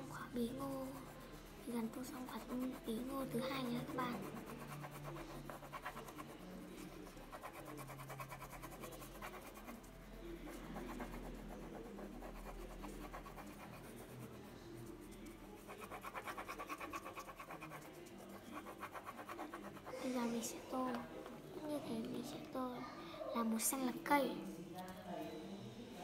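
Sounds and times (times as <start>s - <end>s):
crayon scribbling on paper: 0.0s - 21.9s.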